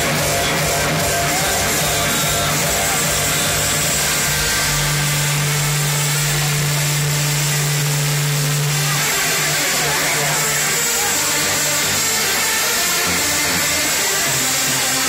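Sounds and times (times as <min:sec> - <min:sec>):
distorted loud festival music: 0:00.0 - 0:15.0.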